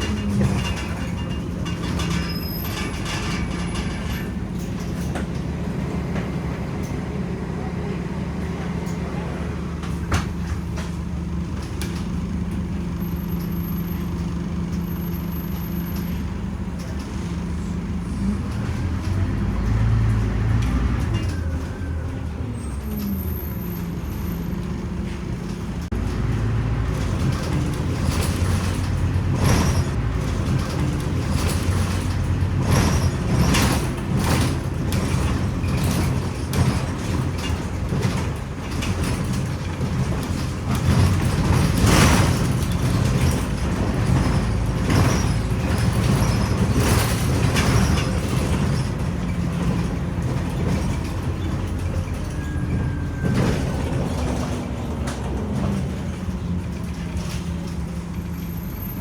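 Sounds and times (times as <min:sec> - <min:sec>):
bus body rattles and knocks: 0:00.0 - 0:59.0
bus engine running: 0:00.0 - 0:59.0.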